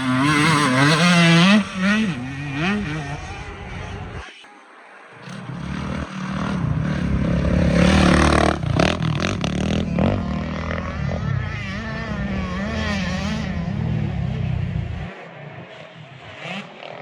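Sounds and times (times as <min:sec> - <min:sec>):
off-road racing engines revving: 0:00.0 - 0:04.4, 0:05.2 - 0:17.0.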